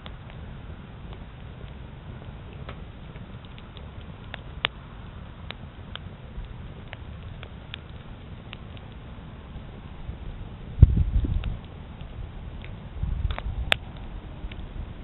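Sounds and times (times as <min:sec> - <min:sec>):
campfire crackling: 0:00.0 - 0:15.0
low steady rumble: 0:00.0 - 0:15.0.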